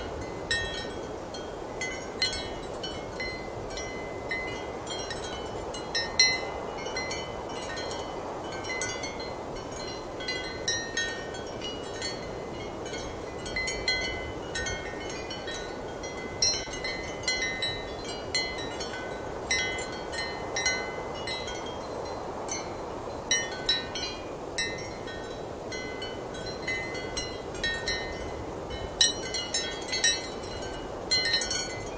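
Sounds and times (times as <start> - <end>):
ceramic wind chimes clinking: 0.0 - 31.9.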